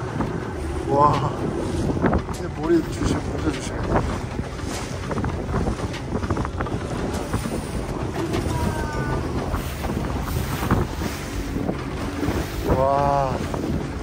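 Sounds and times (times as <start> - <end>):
motorboat engine rumble: 0.0 - 14.0
rushing water: 0.0 - 14.0
wind buffeting microphone: 0.0 - 14.0.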